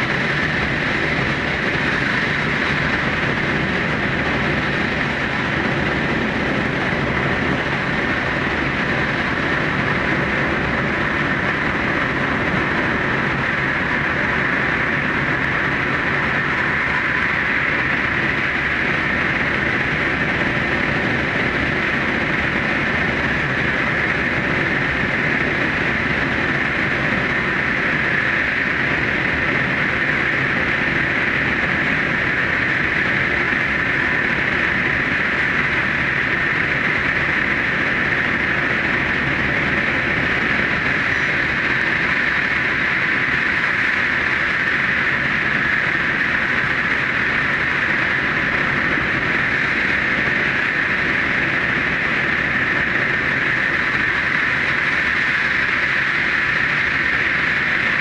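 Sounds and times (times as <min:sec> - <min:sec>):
train rumble and hiss in tunnel: 0:00.0 - 0:58.0.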